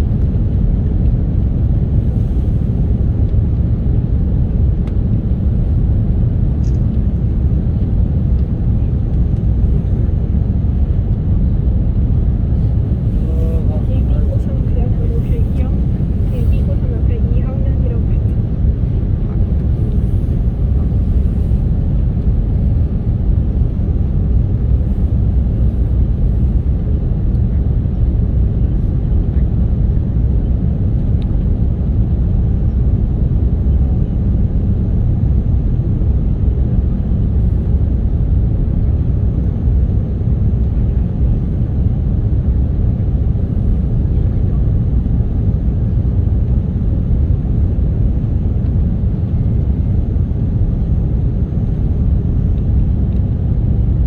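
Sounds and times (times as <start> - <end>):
jet cabin engine rumble: 0.0 - 54.0.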